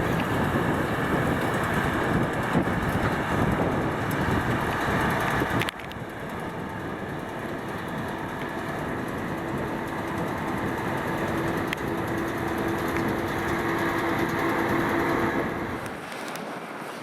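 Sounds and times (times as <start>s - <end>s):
tractor and baler running: 0.0s - 16.9s
wind on microphone: 0.0s - 17.0s.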